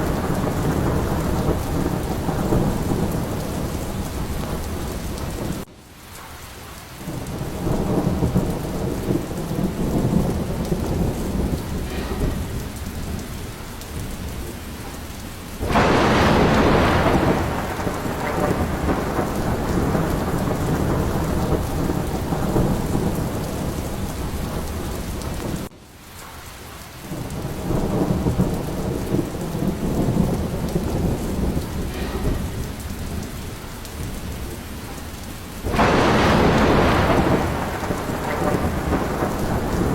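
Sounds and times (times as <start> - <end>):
loud crack of thunder: 0.0 - 5.7, 7.1 - 25.7, 27.1 - 39.9
heavy rain falling: 0.0 - 39.9
thunder rumbling: 0.0 - 39.9.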